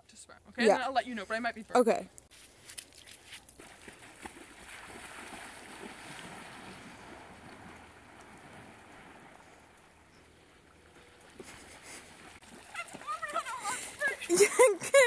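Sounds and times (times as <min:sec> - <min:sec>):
person wading into water: 0:02.6 - 0:15.0.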